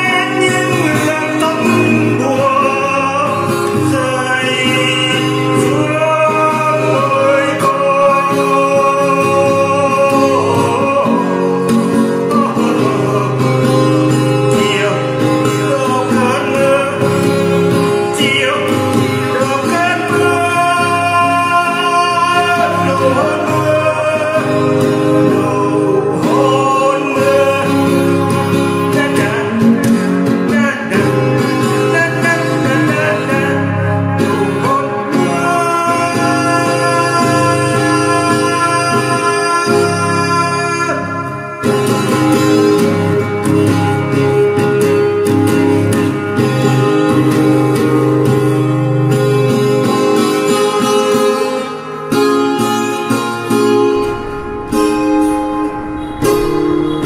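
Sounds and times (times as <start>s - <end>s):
guitar accompaniment: 0.0s - 57.0s
man singing: 0.0s - 57.0s.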